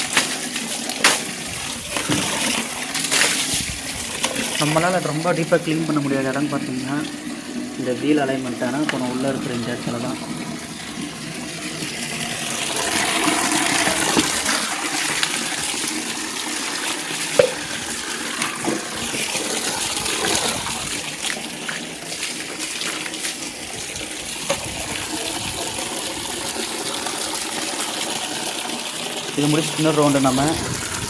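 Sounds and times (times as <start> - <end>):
water splashing over motorcycle: 0.0 - 31.0.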